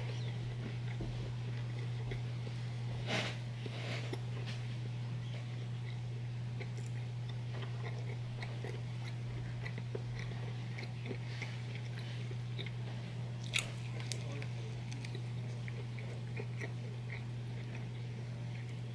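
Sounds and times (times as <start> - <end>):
biting into sandwich: 0.0 - 18.9
chewing sandwich: 0.0 - 18.9
low hum: 0.0 - 18.9.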